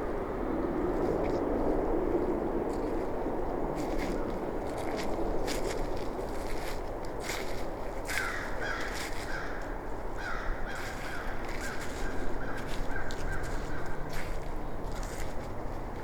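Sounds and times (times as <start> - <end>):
footsteps on forest trail: 2.1 - 16.0.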